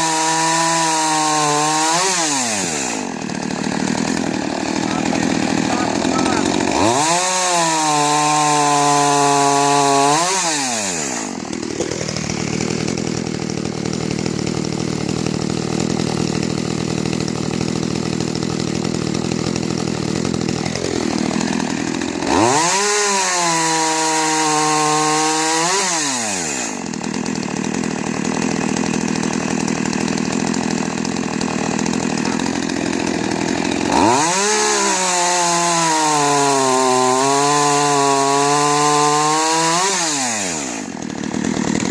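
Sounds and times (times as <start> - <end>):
chainsaw revving and idling: 0.0 - 41.9.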